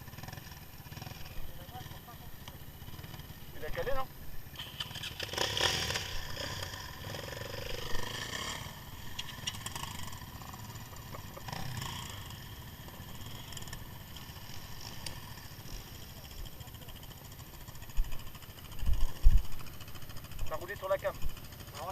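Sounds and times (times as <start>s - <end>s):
quad bike engines: 0.0s - 21.9s.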